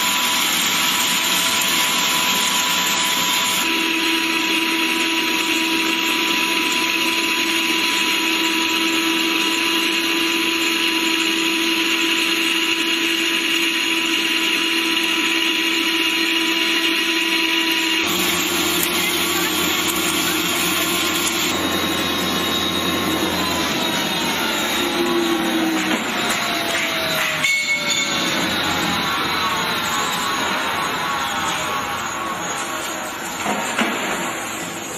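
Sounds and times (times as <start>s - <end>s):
meat grinder motor whining: 0.0s - 34.0s.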